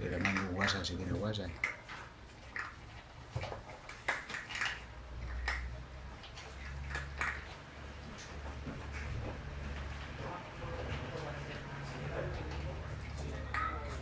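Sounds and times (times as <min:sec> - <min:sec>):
puppies eating from plastic bowl: 0:00.0 - 0:14.0.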